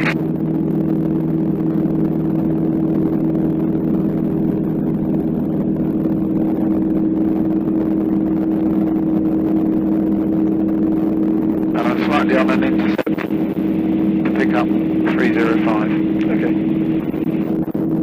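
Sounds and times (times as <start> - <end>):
propeller engine droning: 0.0 - 18.0.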